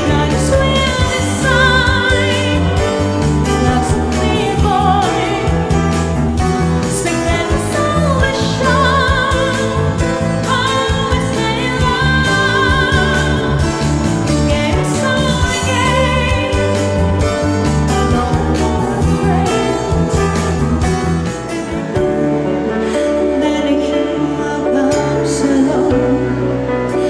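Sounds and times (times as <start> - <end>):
woman singing: 0.0 - 20.8, 22.9 - 27.0
keyboard accompaniment with bass: 0.0 - 27.0.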